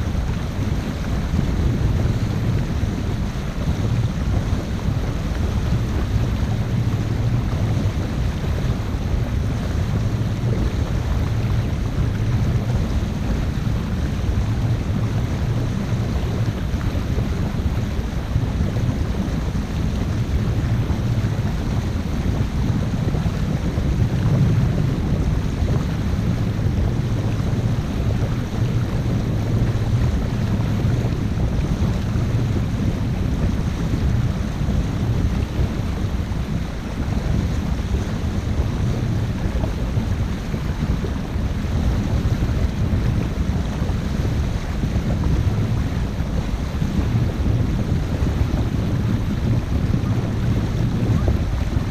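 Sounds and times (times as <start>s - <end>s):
boat engine rumble: 0.0s - 51.9s
rushing water: 0.0s - 51.9s
wind buffeting microphone: 0.0s - 51.9s.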